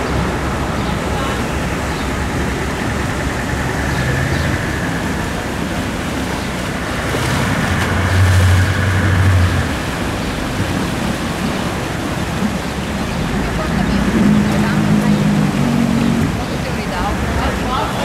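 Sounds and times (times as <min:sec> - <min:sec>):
churning water: 0:00.0 - 0:18.0
motorboat engine hum: 0:00.0 - 0:18.0.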